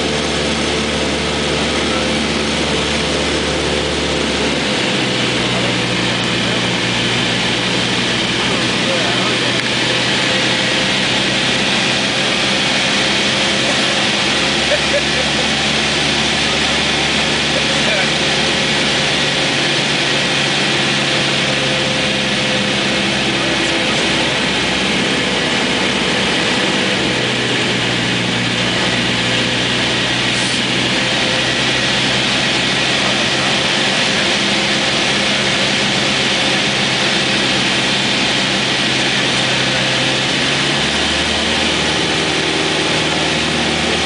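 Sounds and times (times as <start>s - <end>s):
propeller plane engine in flight: 0.0s - 44.0s.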